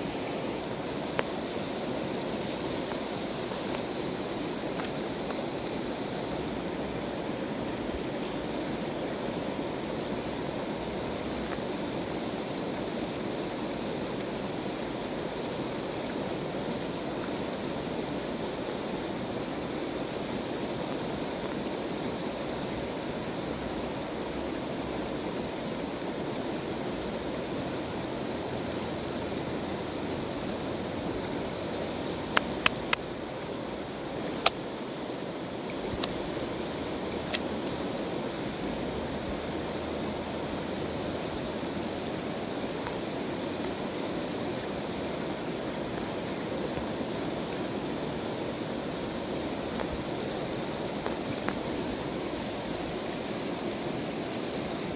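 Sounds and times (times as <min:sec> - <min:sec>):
river rushing: 0:00.0 - 0:54.9.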